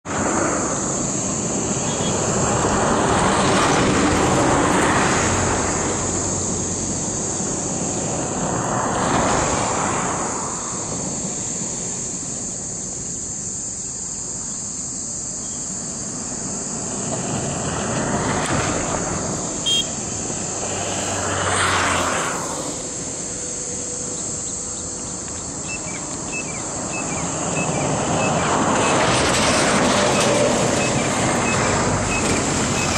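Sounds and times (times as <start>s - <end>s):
distant engine noise: 0.1s - 32.9s
high-pitched insect drone: 0.1s - 32.9s.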